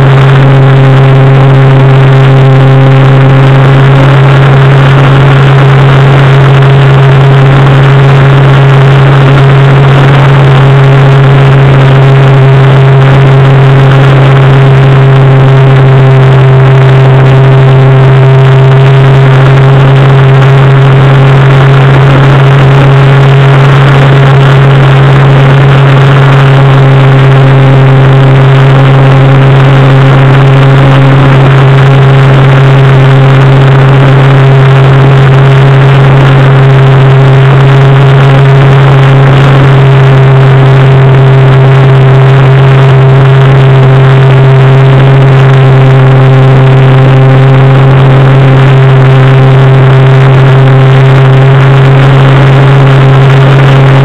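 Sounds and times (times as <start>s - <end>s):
model plane motor and propeller: 0.0s - 54.0s.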